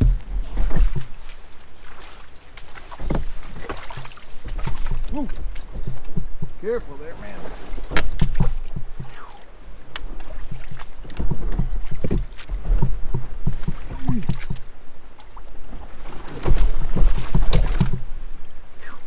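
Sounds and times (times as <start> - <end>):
low rumble on microphone: 0.0 - 2.0, 2.6 - 19.0
kayak hull scraping on rocks: 0.0 - 14.7, 15.7 - 18.2.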